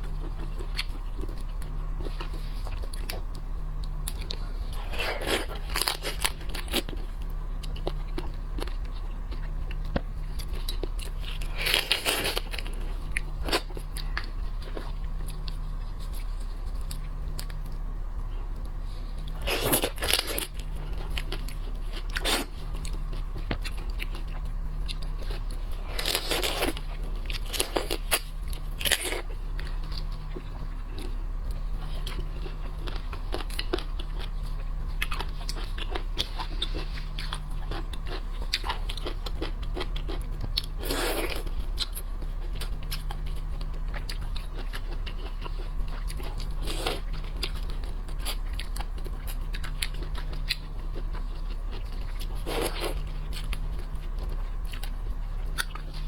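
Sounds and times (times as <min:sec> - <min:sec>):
chewing: 0:00.0 - 0:56.0
steady low hum: 0:00.0 - 0:56.0.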